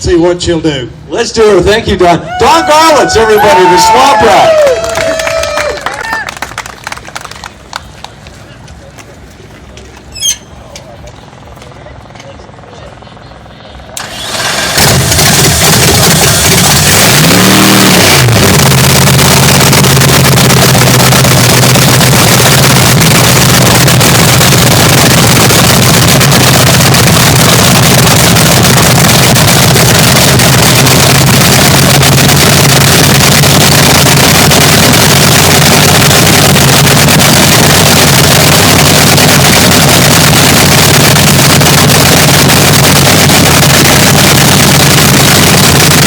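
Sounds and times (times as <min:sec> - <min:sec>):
dragster engine idling: 0:06.5 - 0:46.0.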